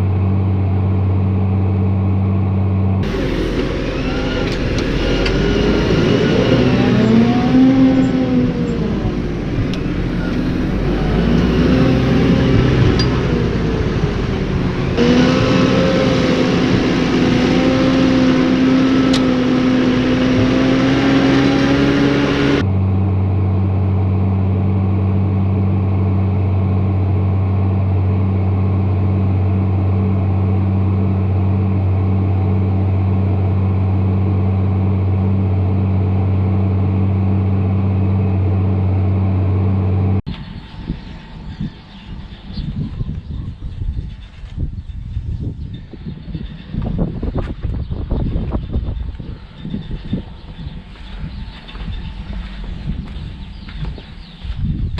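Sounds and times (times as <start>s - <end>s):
low even drone: 0.0s - 54.9s
tractor engine running: 0.0s - 54.9s.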